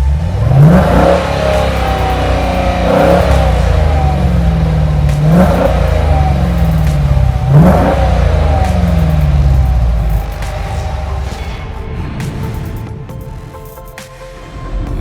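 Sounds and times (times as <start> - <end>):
car engine idling and revving: 0.0 - 13.8.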